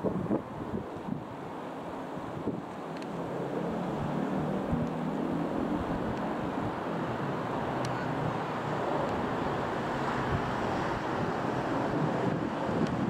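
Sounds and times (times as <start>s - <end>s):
jet flying overhead: 0.0s - 13.0s.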